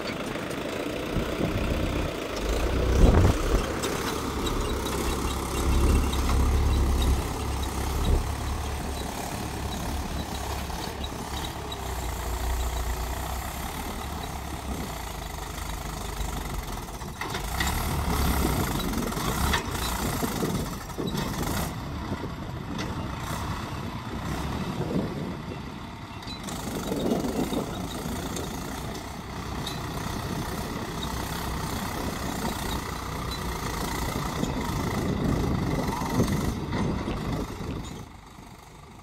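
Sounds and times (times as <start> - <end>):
tractor diesel engine under load: 0.0 - 39.0.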